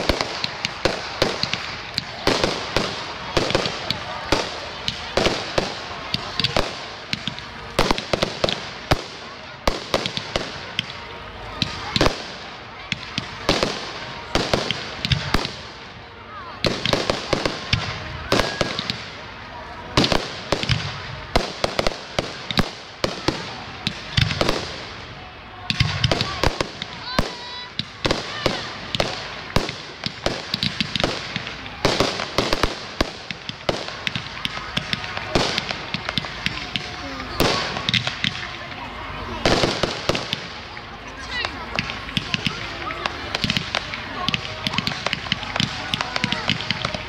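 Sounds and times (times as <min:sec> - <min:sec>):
fireworks bursting with sharp bangs: 0:00.0 - 0:47.0
fireworks crackling: 0:00.0 - 0:47.0.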